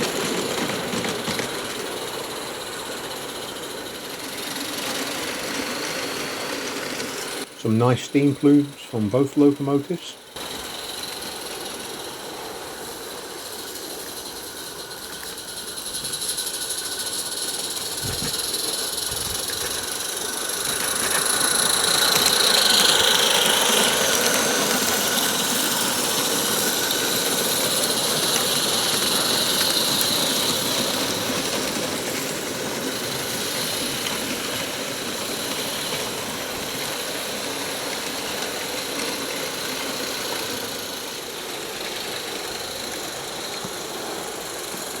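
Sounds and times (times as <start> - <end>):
steam locomotive hissing: 0.0 - 45.0.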